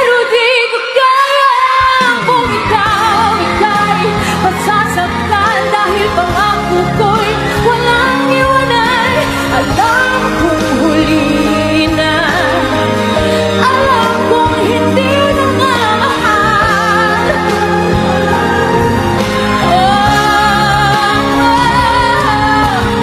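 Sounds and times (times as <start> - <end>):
woman singing a ballad: 0.0 - 23.0
band accompaniment: 1.6 - 23.0
bass guitar: 2.1 - 23.0.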